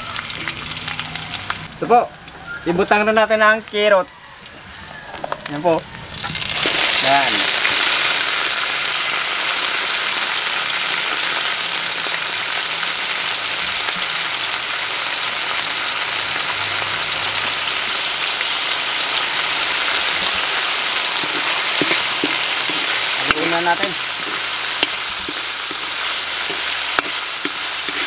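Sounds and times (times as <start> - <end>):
hot oil sizzling in a wok: 0.0 - 2.6, 4.1 - 28.0.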